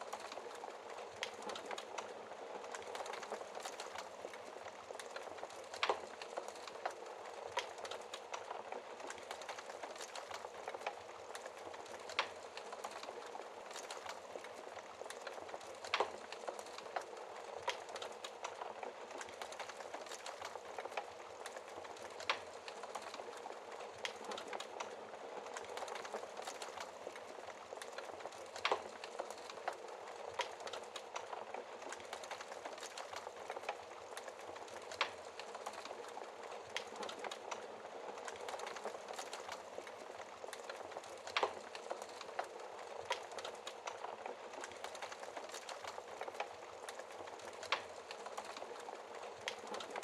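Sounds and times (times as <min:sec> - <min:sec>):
wood fire crackling and popping: 0:00.0 - 0:50.0.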